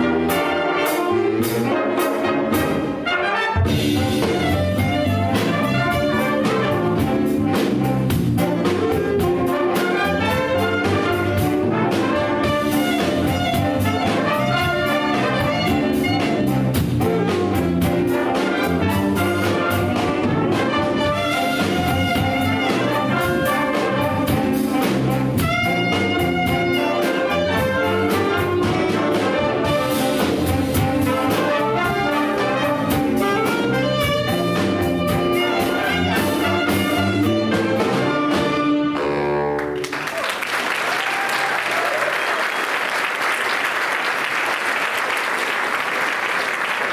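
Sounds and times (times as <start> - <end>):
drums and cymbals: 0.0 - 39.0
trumpets and trombones: 0.0 - 40.0
big band jazz: 0.0 - 46.9.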